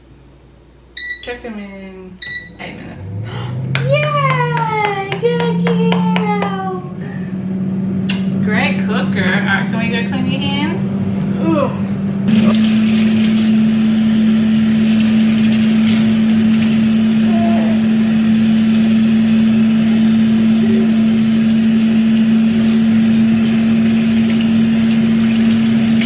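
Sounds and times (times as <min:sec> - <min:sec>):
loud steady machine hum: 0:02.4 - 0:26.0.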